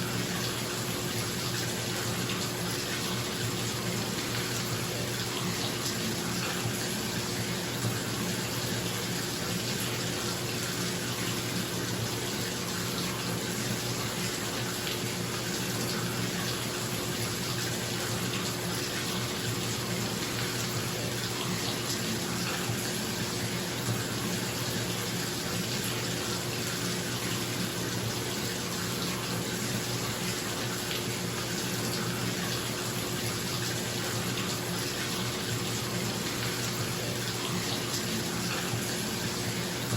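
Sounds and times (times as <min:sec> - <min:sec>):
water pouring into bathtub: 0:00.0 - 0:39.9.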